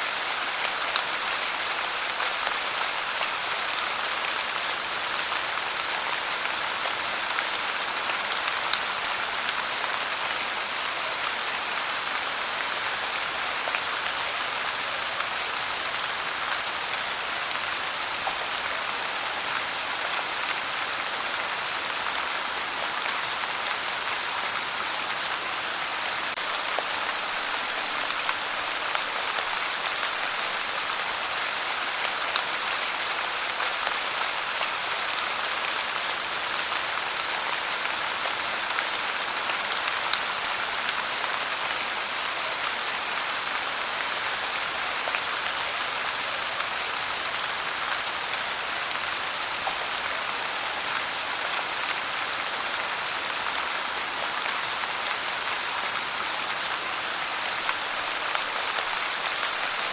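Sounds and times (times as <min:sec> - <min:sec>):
pouring rain: 0:00.0 - 0:59.9.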